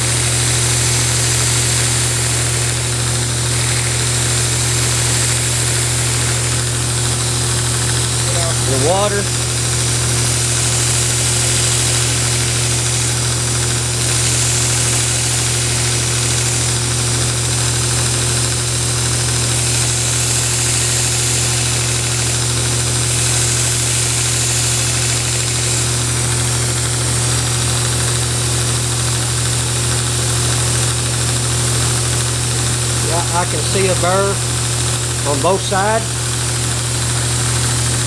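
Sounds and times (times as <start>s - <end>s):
steel grinding against belt: 0.0s - 27.9s, 33.0s - 36.1s
belt grinder motor humming: 0.0s - 38.0s.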